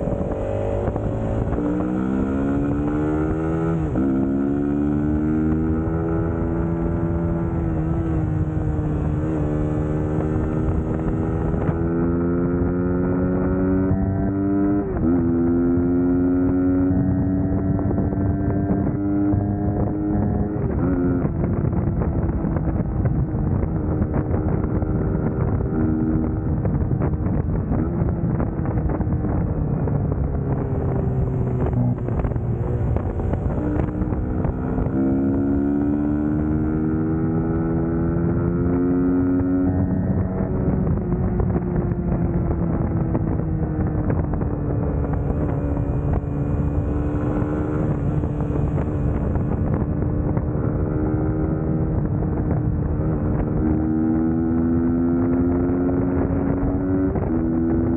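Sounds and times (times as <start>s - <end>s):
motorcycle engine revving: 0.0s - 57.9s
wind on microphone: 0.0s - 57.9s.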